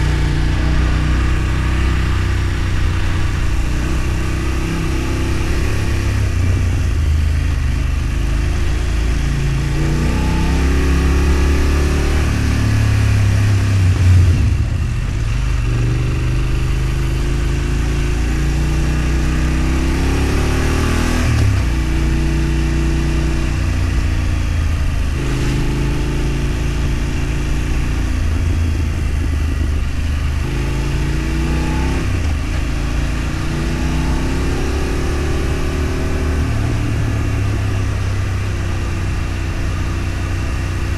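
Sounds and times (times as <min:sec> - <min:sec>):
vehicle engine accelerating: 0:00.0 - 0:40.9.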